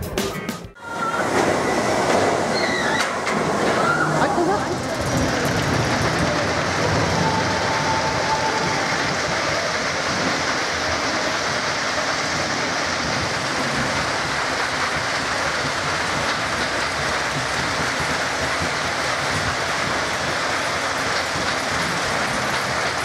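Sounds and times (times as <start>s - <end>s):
roller coaster wheels on rails: 0.7s - 23.0s.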